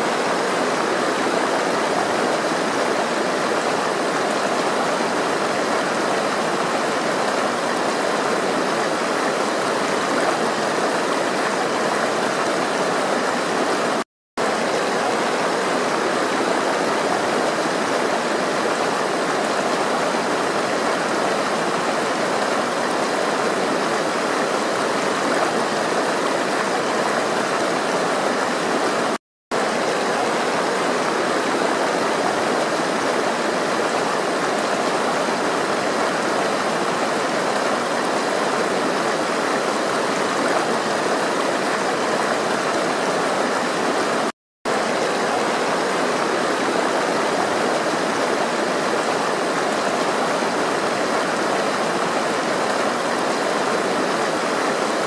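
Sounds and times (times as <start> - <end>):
flowing water: 0.0 - 55.0.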